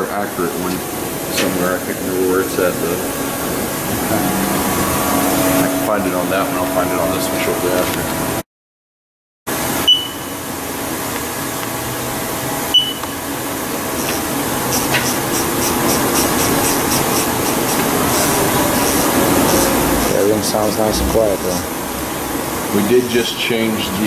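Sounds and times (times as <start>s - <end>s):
lathe machine hum: 0.0s - 8.4s, 10.4s - 24.0s.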